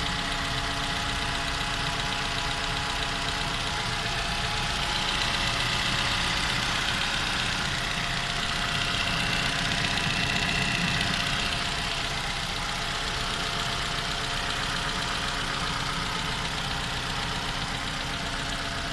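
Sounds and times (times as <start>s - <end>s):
car engine idling with knock: 0.0s - 18.9s.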